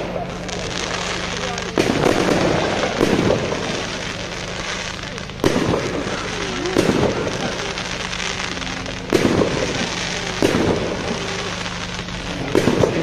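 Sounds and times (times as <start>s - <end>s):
firework bangs: 0.0s - 13.0s
firework crackle and hiss: 0.0s - 13.0s.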